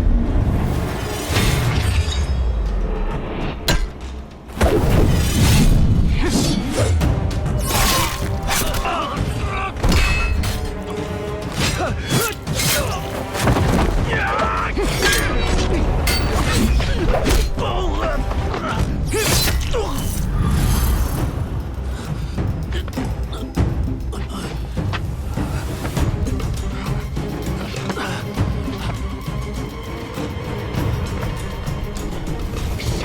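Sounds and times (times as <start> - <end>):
dramatic music score: 0.0 - 33.0.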